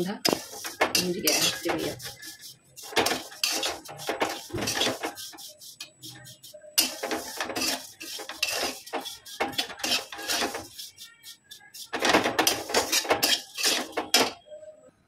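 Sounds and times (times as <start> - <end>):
metal spatula scraping a pan: 0.0 - 14.4.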